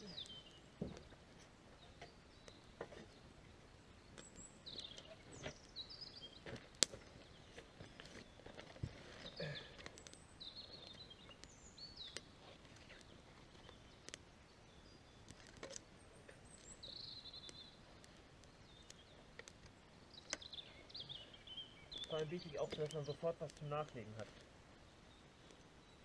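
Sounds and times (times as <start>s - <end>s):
campfire crackling: 0.0s - 26.0s
faint birdsong trills: 0.0s - 26.0s.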